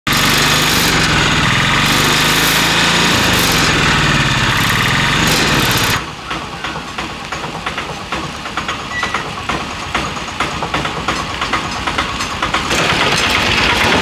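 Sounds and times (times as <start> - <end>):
auto-rickshaw engine running: 0.0 - 14.0.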